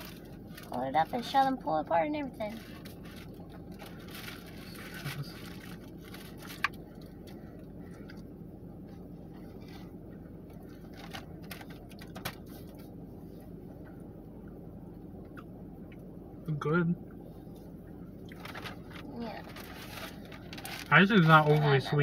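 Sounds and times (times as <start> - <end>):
faint crackles of eating donuts: 0.0 - 14.6, 17.1 - 22.0
low room hum: 0.0 - 22.0.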